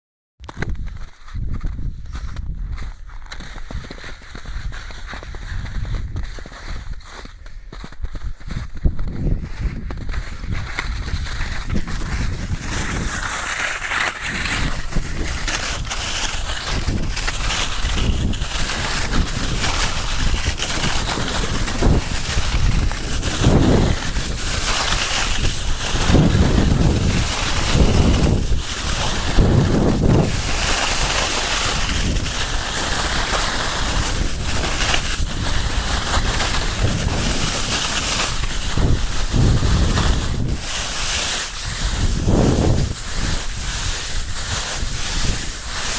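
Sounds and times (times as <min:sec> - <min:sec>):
skis sliding on snow: 0:01.0 - 0:45.9
wind buffeting microphone: 0:08.1 - 0:13.3, 0:14.2 - 0:45.9.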